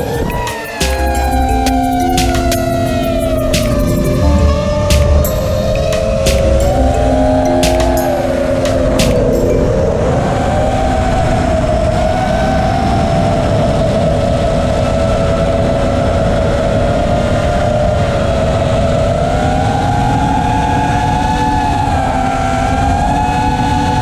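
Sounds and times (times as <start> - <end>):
wind noise: 0.0 - 24.0.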